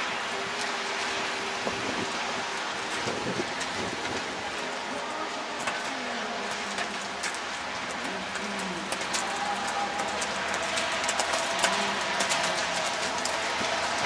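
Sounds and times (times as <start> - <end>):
steady rain hiss: 0.0 - 14.0
faint voices: 0.1 - 14.0.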